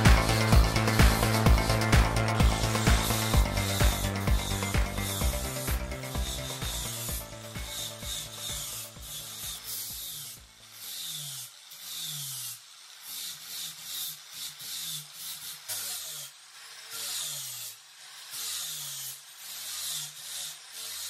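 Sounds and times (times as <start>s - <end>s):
electric sander grinding: 0.0s - 21.0s.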